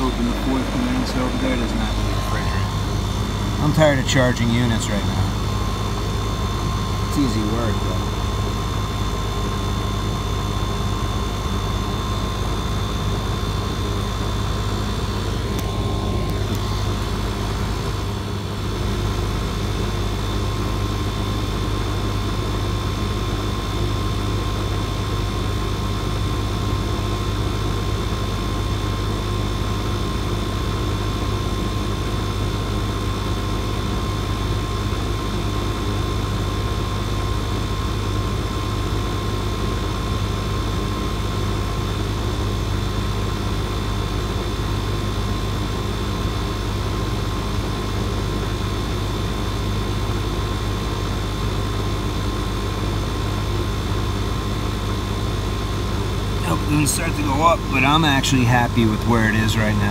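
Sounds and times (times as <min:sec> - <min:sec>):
air conditioner unit humming: 0:00.0 - 0:59.9.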